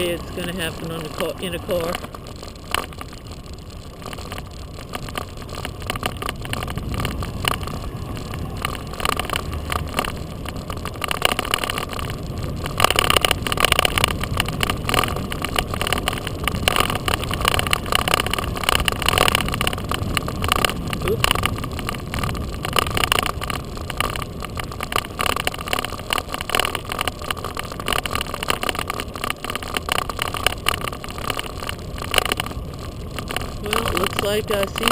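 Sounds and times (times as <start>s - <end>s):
bicycle tyre road noise: 0.0s - 34.9s
bike rattles and clicks: 0.0s - 34.9s.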